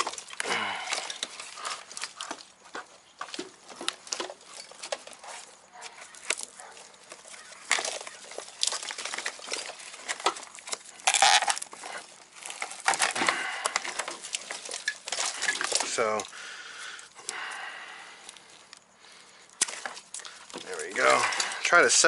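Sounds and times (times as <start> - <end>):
plastic parts clicking and rattling: 0.0 - 16.4, 19.6 - 22.0.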